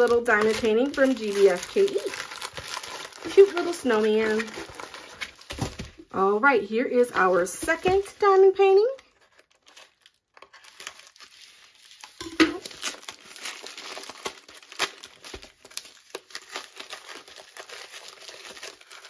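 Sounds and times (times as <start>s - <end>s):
plastic packaging crinkling and tearing: 0.0s - 6.0s, 7.2s - 19.0s.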